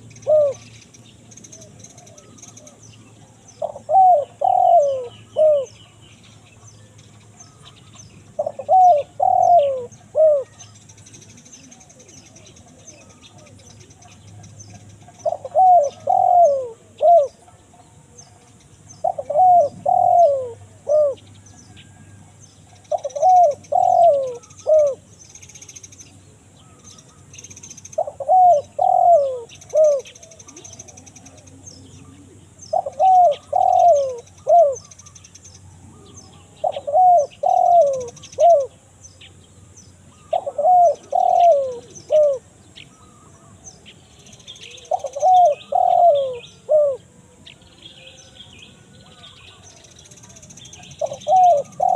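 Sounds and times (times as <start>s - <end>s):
dove cooing: 0.0s - 6.7s, 7.5s - 25.9s, 26.6s - 39.0s, 40.1s - 43.6s, 44.4s - 51.9s
small birds chirping: 0.0s - 51.9s.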